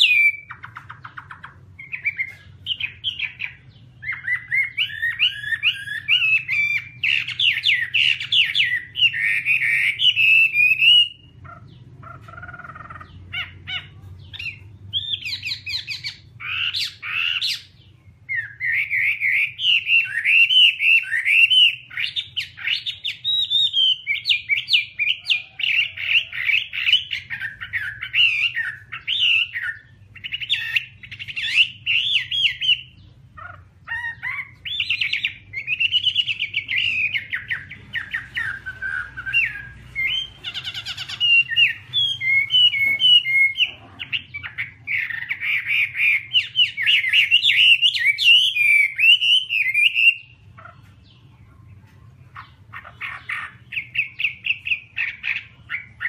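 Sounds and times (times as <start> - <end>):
bird singing warbled song: 0.0 - 56.0.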